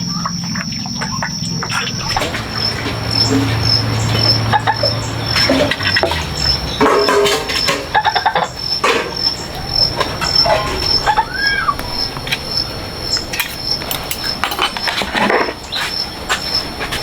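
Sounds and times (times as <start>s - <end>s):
pulsing insect trill: 0.0s - 16.8s
pigs squealing: 0.0s - 17.0s.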